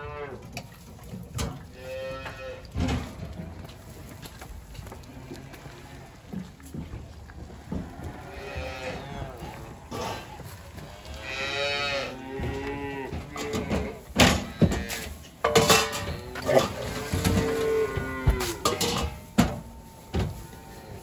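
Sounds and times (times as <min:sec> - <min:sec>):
calves bawling: 0:00.0 - 0:21.0.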